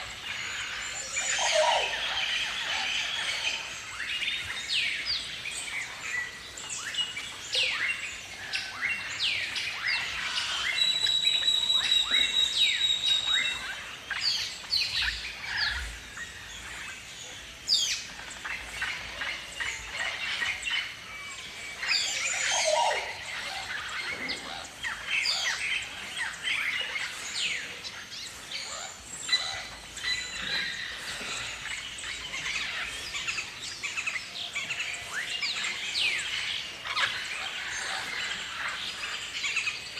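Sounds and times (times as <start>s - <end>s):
many birds chirping: 0.0s - 39.9s.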